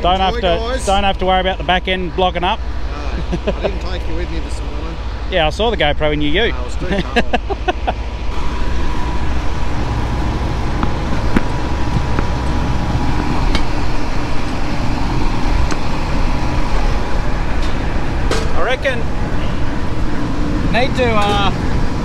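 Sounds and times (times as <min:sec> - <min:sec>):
combine harvester rumbling: 0:00.0 - 0:22.0
faint steady whine: 0:00.0 - 0:22.0.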